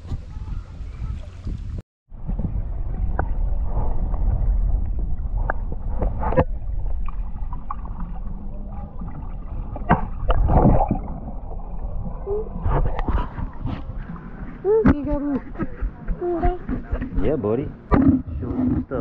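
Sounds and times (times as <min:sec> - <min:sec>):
muffled underwater water wash: 0:00.0 - 0:19.0
water gurgles: 0:01.0 - 0:19.0.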